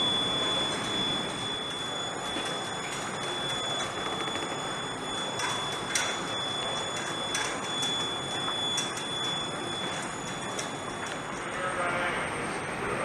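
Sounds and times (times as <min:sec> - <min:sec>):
machine high-pitched whine: 0:00.0 - 0:13.0.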